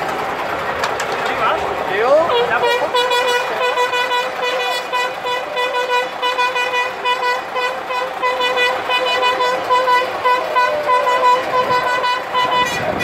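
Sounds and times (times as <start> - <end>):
crowd cheering: 0.0 - 13.0
horn tooting: 2.0 - 13.0.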